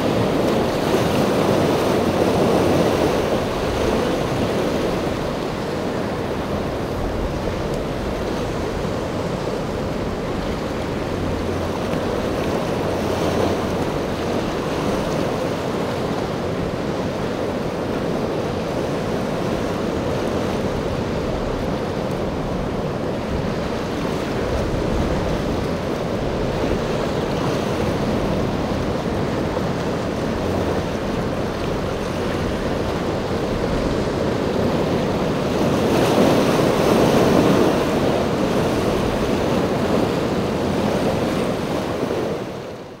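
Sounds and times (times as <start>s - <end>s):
rough surf washing: 0.0s - 43.0s.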